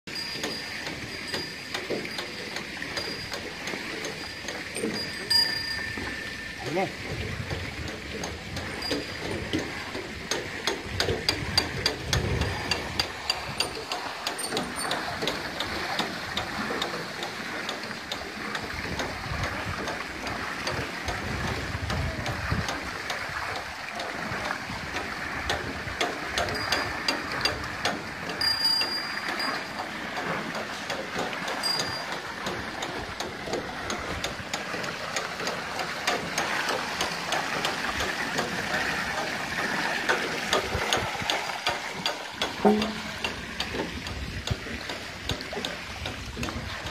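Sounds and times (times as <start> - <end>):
wooden gearing knocking: 0.1 - 46.8
water splashing into trough: 0.1 - 46.9.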